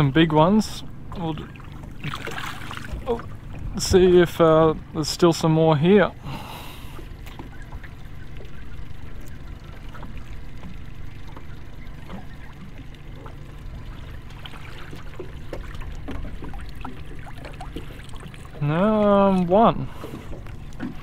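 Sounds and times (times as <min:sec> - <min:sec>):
steady low rumble: 0:00.0 - 0:21.0
drips and splashes: 0:01.2 - 0:03.8, 0:06.6 - 0:21.0.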